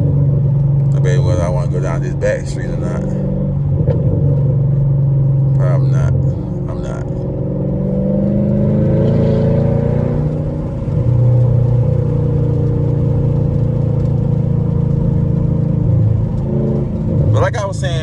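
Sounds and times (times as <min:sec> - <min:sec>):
car exhaust accelerating: 0:00.0 - 0:18.0.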